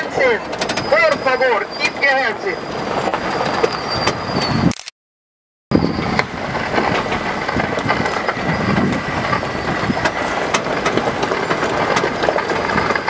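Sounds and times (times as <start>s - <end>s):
vehicle body rattling: 0.0s - 4.6s, 5.7s - 13.0s
vehicle engine rumble: 0.0s - 4.9s, 5.7s - 13.0s.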